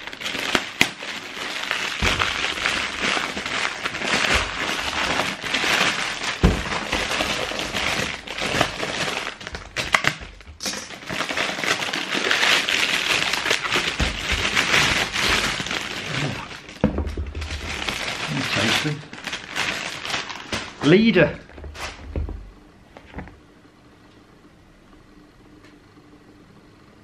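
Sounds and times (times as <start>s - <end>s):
plastic wrapping crinkling and tearing: 0.0s - 22.1s.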